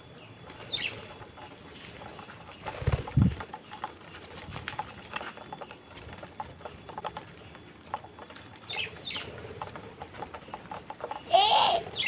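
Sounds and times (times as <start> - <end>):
birds clicking and pattering: 0.0 - 12.0.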